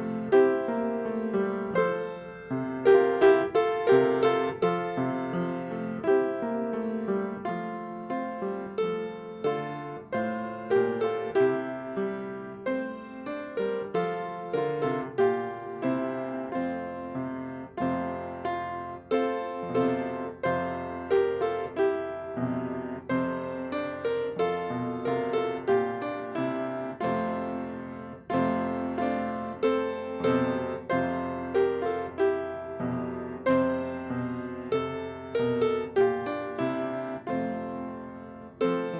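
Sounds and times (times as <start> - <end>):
solo piano chords: 0.0 - 38.9.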